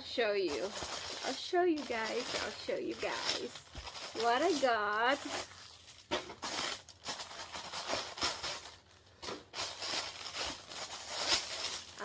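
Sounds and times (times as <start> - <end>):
tissue paper rustling and crinkling: 0.0 - 12.0.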